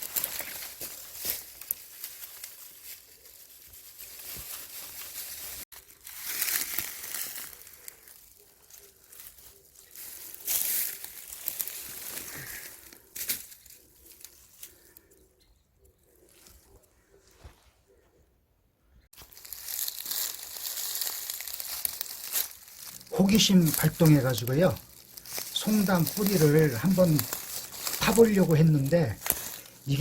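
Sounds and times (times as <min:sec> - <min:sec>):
leaves and vines rustling and tearing: 0:00.0 - 0:15.2, 0:19.1 - 0:30.0.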